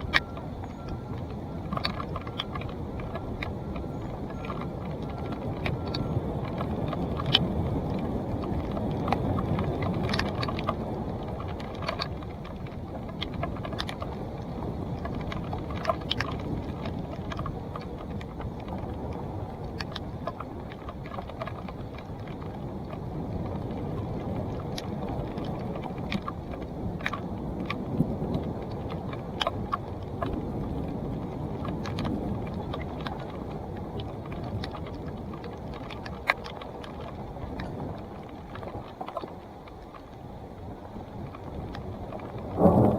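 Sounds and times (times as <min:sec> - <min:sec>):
bike clicking and rattling: 0:00.0 - 0:42.9
bike tyres rumbling on dirt: 0:00.0 - 0:42.9
wind on microphone: 0:00.0 - 0:42.9.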